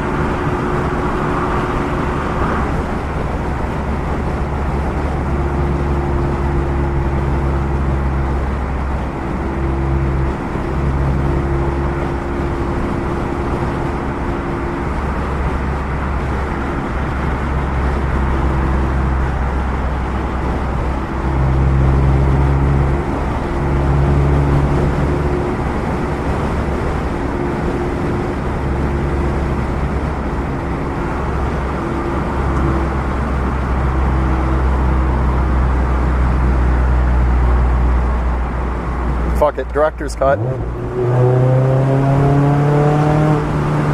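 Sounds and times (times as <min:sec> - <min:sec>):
car engine cruising: 0:00.0 - 0:43.9
tyre and road noise: 0:00.0 - 0:43.9.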